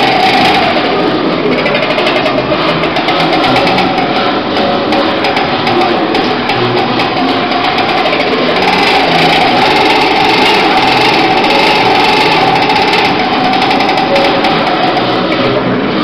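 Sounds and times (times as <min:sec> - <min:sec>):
noise-intoners buzzing grinding drone: 0:00.0 - 0:16.0.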